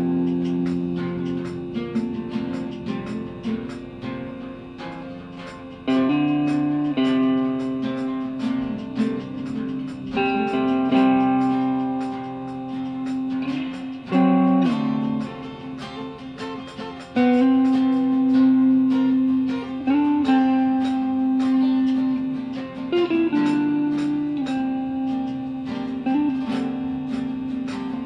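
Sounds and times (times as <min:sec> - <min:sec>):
guitar notes with slides: 0:00.0 - 0:28.0.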